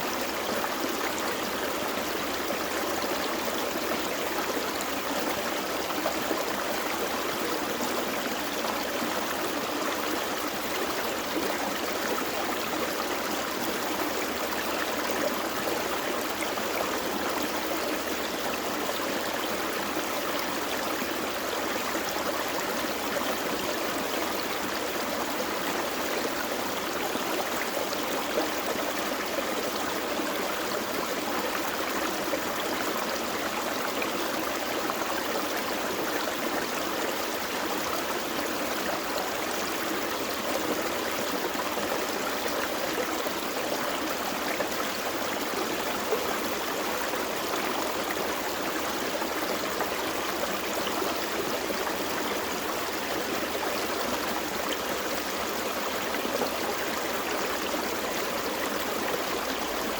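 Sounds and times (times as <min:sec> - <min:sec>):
creek flowing over rocks: 0:00.0 - 0:59.9.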